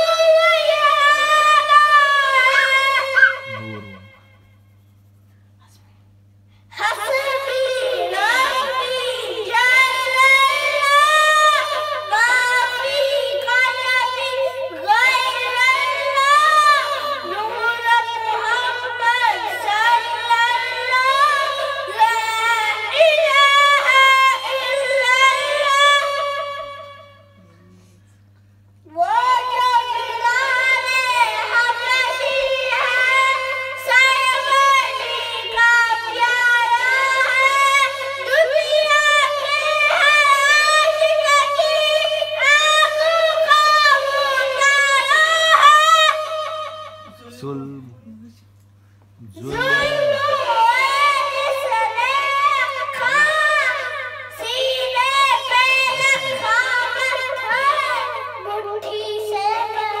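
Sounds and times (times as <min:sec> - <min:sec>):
boy singing into a microphone: 0:00.0 - 0:04.0, 0:06.7 - 0:27.0, 0:28.9 - 0:47.8, 0:49.2 - 1:00.0
faint steady hum: 0:00.0 - 1:00.0.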